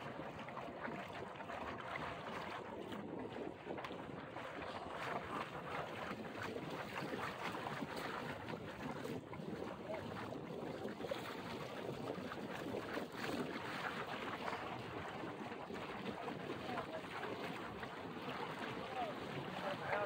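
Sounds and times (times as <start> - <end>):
water rushing along a boat hull: 0.0 - 20.0.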